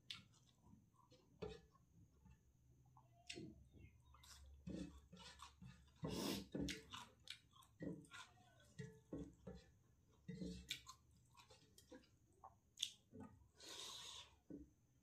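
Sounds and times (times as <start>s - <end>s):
person chewing food: 0.0s - 14.8s.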